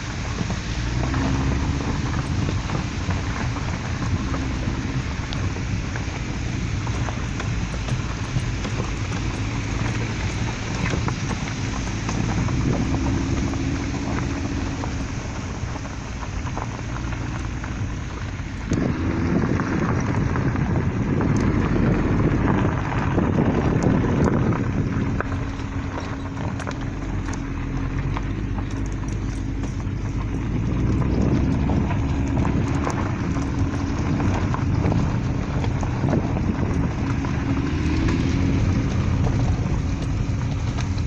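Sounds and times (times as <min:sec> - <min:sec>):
car engine and tyre noise: 0:00.0 - 0:41.0.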